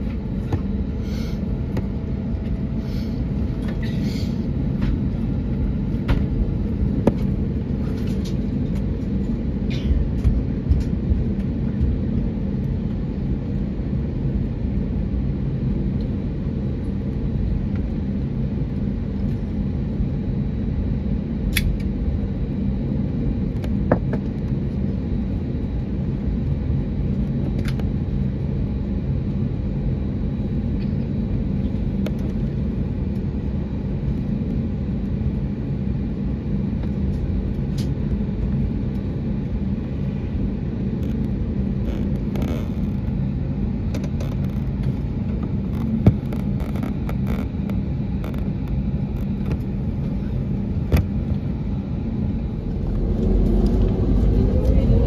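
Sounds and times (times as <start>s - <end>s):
aircraft engines rumbling: 0.0s - 55.0s.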